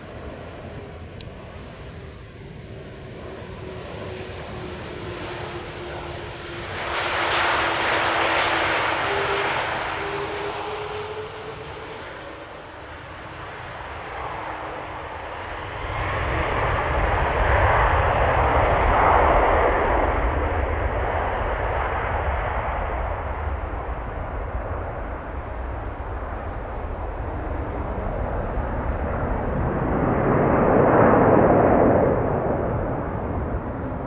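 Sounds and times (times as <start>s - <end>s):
jet engine noise: 0.0s - 34.0s.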